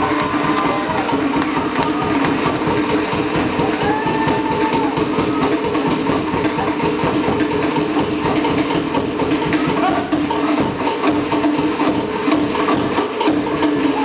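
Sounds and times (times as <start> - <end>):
fast continuous drumming: 0.0 - 14.0.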